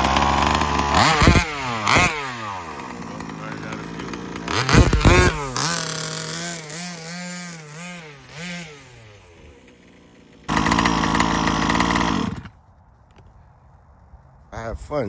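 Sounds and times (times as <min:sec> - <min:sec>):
small two-stroke engine revving: 0:00.0 - 0:12.6.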